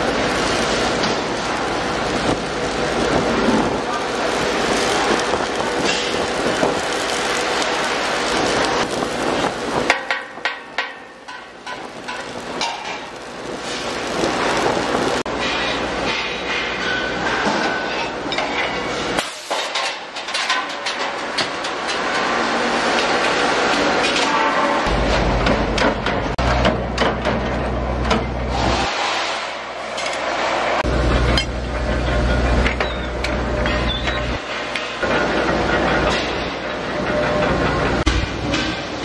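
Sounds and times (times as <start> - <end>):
welding crackling: 0.0 - 24.2, 24.8 - 39.0.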